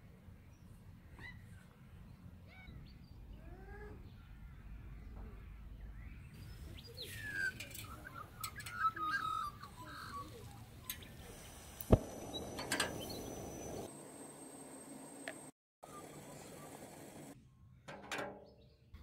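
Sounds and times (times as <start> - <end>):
birds chirping: 0.5 - 17.4.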